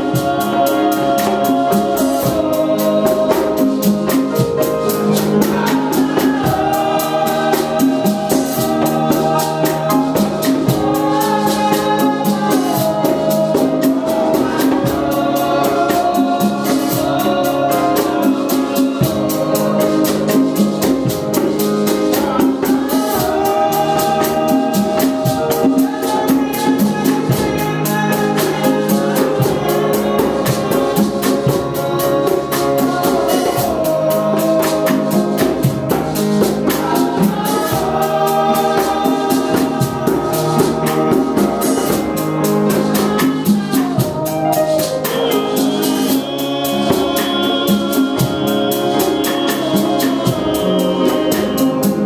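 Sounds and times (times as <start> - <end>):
woman singing into microphone: 0.0 - 4.5, 5.2 - 20.3, 22.0 - 52.0
congas beat: 0.0 - 52.0
group singing gospel song: 0.0 - 52.0.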